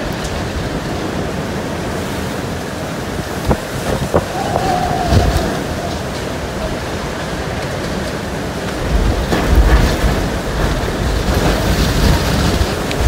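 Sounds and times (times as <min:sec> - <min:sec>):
driving rain: 0:00.0 - 0:13.0
roaring hurricane wind: 0:00.0 - 0:13.0.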